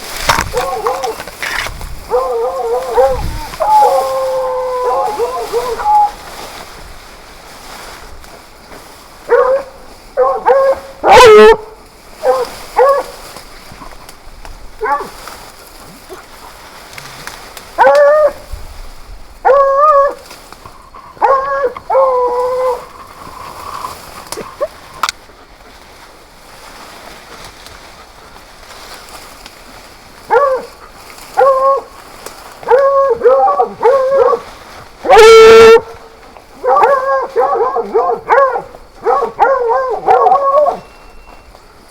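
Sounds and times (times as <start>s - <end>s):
hunting dogs baying: 0.0s - 6.8s, 9.2s - 14.1s, 14.7s - 18.5s, 19.3s - 26.1s, 30.0s - 41.9s.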